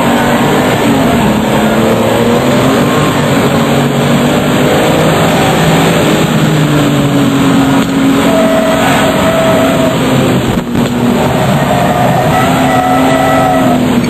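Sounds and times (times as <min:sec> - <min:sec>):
car engine running hard: 0:00.0 - 0:14.0.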